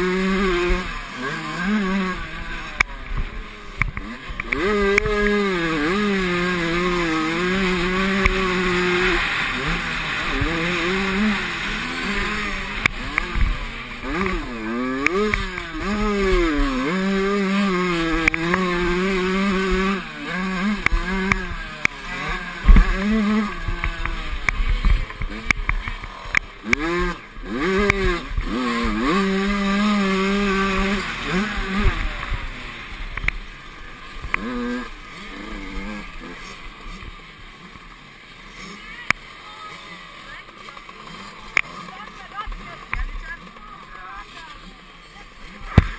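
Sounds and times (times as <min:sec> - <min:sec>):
motocross engines revving: 0:00.0 - 0:45.9.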